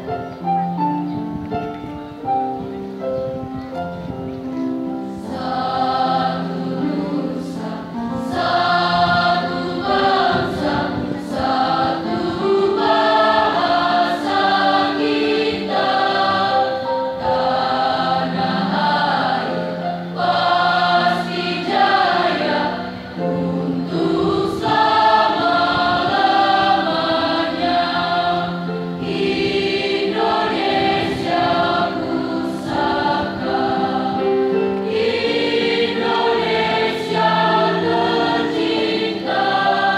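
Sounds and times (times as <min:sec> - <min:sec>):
electronic keyboard: 0:00.0 - 0:39.9
children's choir singing: 0:05.1 - 0:39.9.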